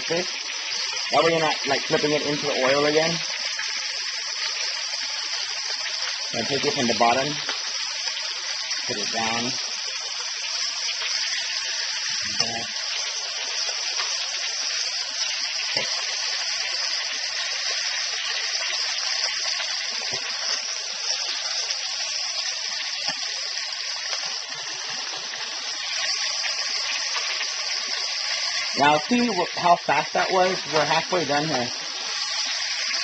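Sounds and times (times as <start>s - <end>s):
fish frying in hot oil: 0.0s - 33.0s.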